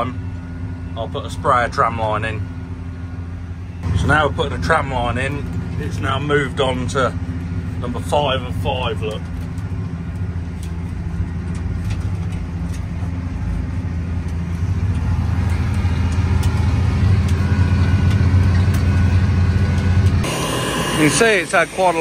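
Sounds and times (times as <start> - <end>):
tractor engine hum: 0.0 - 22.0.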